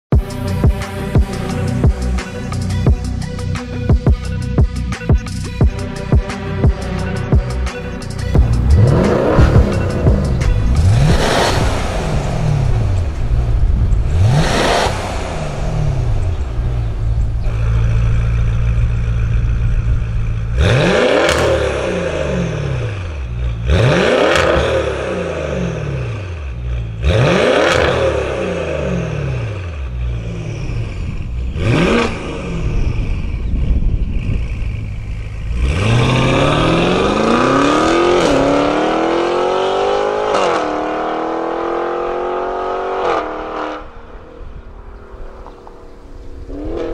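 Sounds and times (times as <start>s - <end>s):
car engine idling: 0.1s - 46.9s
car engine revving: 0.1s - 46.9s
car accelerating hard: 6.1s - 46.9s.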